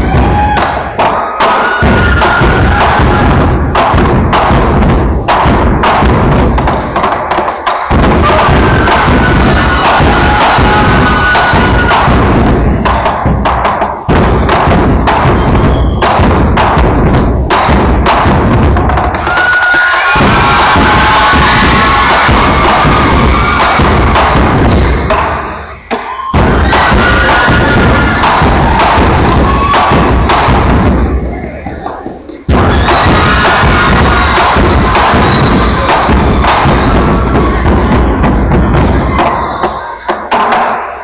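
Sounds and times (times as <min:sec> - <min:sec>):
taiko drums pounding: 0:00.0 - 0:41.0.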